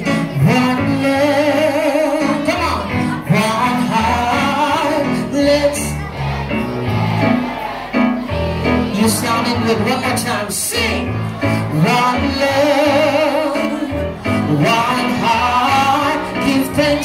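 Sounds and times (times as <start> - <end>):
backing track with bass line: 0.0 - 17.0.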